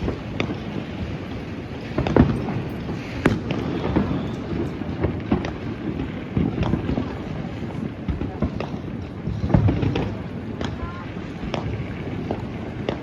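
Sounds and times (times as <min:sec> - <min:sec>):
fireworks banging and crackling: 0:00.0 - 0:13.0.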